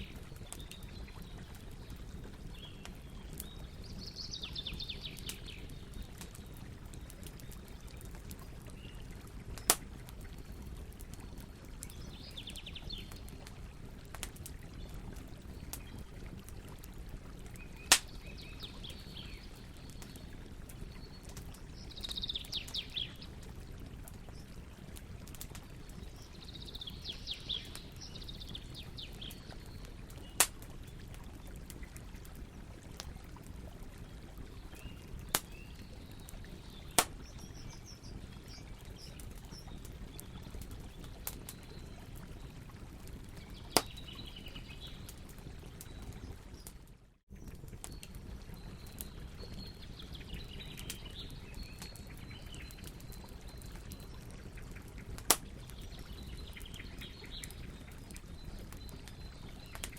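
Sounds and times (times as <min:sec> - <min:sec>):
small birds chirping: 0:00.0 - 0:32.6, 0:33.4 - 0:46.8, 0:47.4 - 0:59.9
campfire burning: 0:00.0 - 0:59.9.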